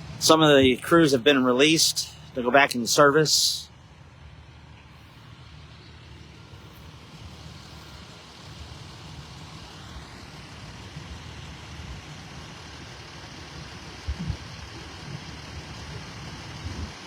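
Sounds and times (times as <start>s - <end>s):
low vehicle engine rumble: 0.0s - 17.0s
traffic hiss: 0.0s - 17.0s.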